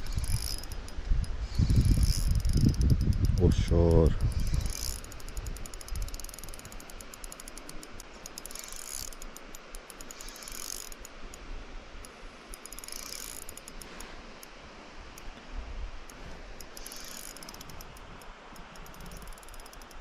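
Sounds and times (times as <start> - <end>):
fishing reel clicking: 0.0 - 11.4, 12.0 - 14.5, 16.1 - 20.0.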